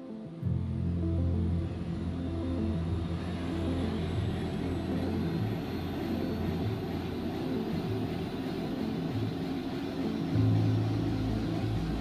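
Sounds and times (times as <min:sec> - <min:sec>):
faint high whine rising in pitch: 0:00.0 - 0:12.0
helicopter turbine and rotor: 0:00.2 - 0:12.0.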